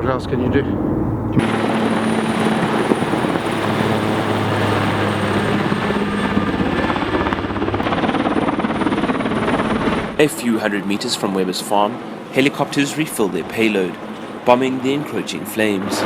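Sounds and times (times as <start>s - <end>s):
helicopter rotor chopping: 0.0s - 16.0s
high turbine whine: 0.0s - 16.0s.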